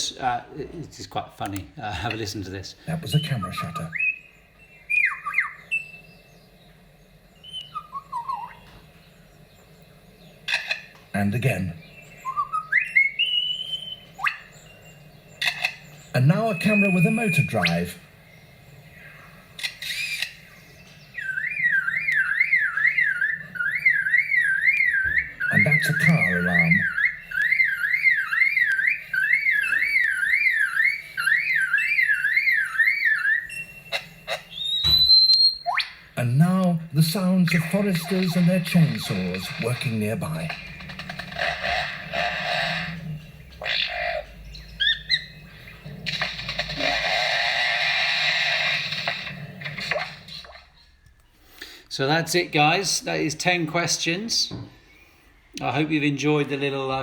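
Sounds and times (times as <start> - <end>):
lyrebird whistled song: 2.9 - 10.4, 11.8 - 50.8.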